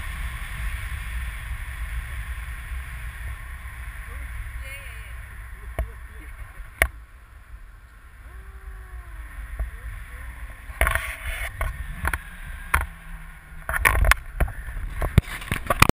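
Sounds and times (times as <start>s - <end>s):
wind rumbling over camera: 0.0s - 15.9s.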